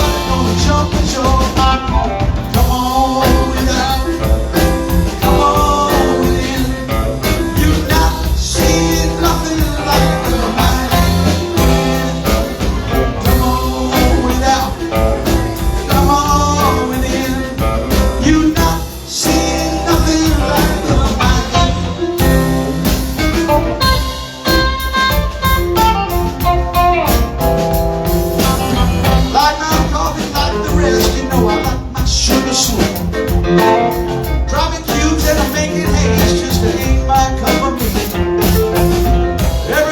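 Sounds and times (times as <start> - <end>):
person singing: 0.0 - 27.2, 28.0 - 39.9
live band playing bluesy rock: 0.0 - 39.9.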